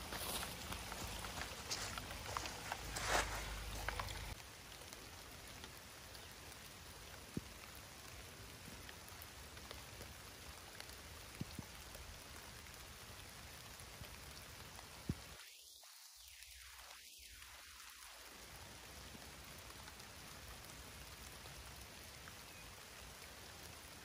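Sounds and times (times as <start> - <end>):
close raindrops striking: 0.0 - 24.0
steady rain falling: 0.0 - 24.0.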